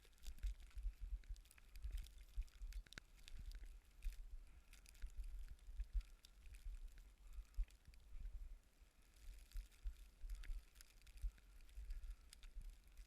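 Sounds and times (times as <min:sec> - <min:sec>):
faint crackling ticks: 0:00.0 - 0:13.0.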